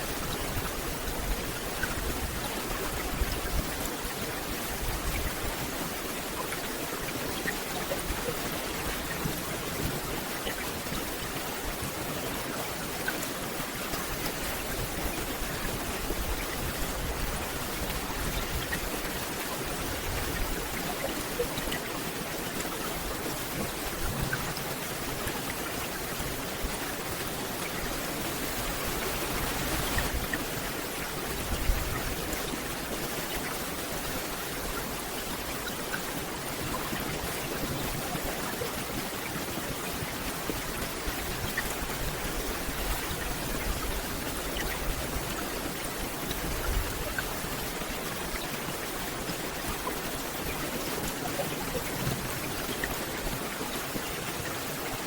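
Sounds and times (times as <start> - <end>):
rain on forest canopy: 0.0 - 55.0.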